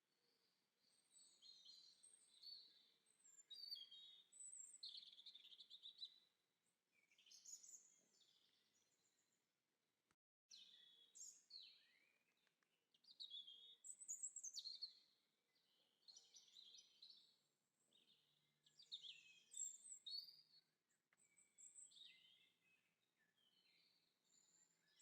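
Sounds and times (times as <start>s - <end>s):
songbirds singing: 0.2s - 9.2s, 10.5s - 25.0s.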